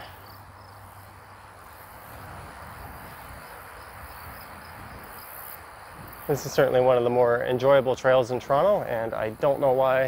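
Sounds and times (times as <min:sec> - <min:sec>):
high-pitched insect song: 0:00.0 - 0:10.0.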